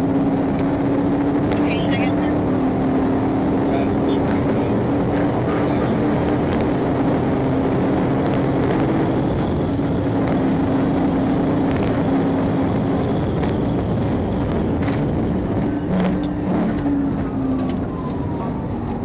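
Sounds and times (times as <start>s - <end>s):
car engine droning: 0.0s - 19.0s
road and wind noise: 0.0s - 19.0s.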